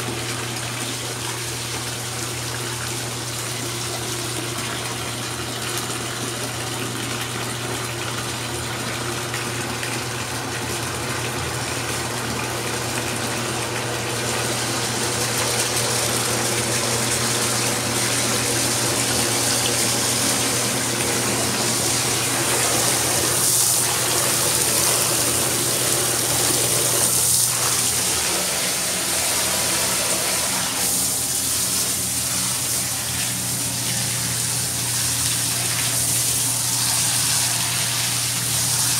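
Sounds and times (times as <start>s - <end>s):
pump motor hum: 0.0s - 38.9s
pumped water rushing: 0.0s - 38.9s.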